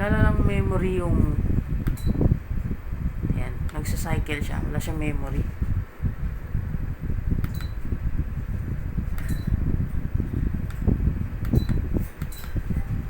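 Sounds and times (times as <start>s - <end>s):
fan airflow buffeting microphone: 0.0s - 13.0s.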